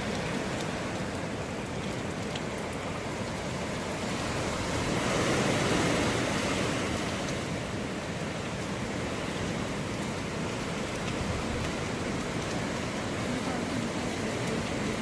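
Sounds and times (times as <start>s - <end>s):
heavy rain: 0.0s - 15.0s
hurricane wind blowing: 0.0s - 15.0s.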